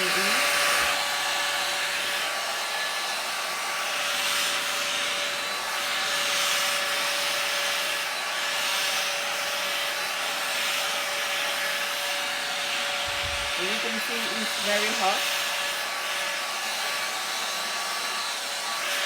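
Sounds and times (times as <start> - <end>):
hair dryer brush fan whine: 0.0 - 19.0.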